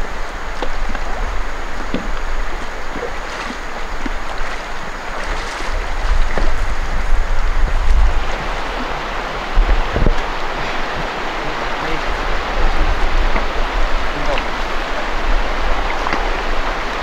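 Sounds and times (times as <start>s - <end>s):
knocks and splashes in water: 0.0s - 17.0s
rushing river water: 0.0s - 17.0s
wind rumbling on microphone: 0.0s - 17.0s.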